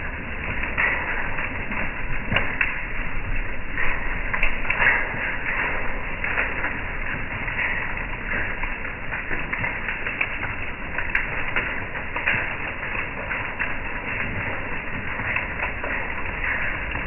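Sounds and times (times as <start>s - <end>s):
hailstones ticking on wooden deck: 0.0s - 17.0s
rain hissing: 0.0s - 17.0s.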